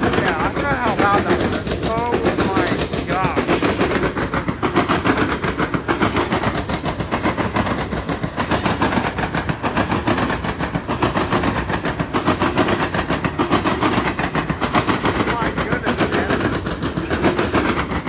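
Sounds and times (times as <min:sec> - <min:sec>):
train wheels clattering over rails: 0:00.0 - 0:18.0.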